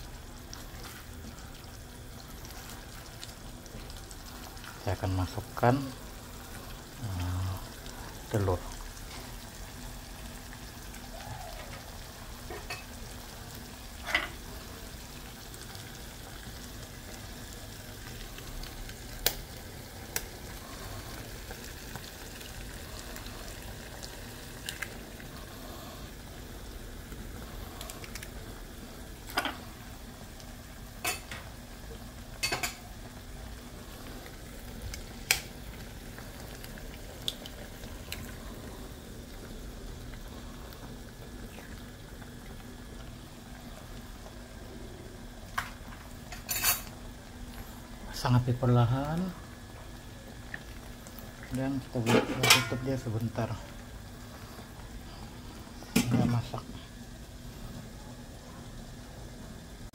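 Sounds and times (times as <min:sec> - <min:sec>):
sauce sizzling in a wok: 0:00.0 - 0:59.9.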